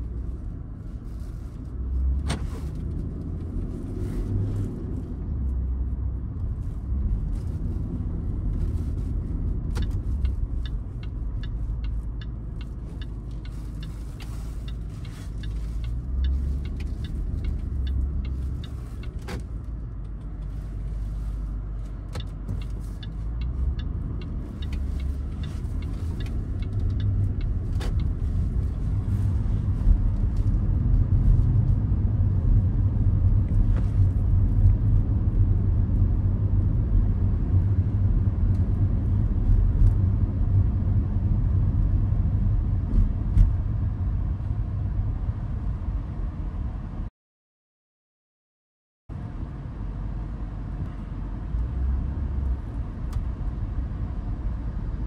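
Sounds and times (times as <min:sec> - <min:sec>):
car engine and road rumble: 0:00.0 - 0:47.1, 0:49.1 - 0:55.0.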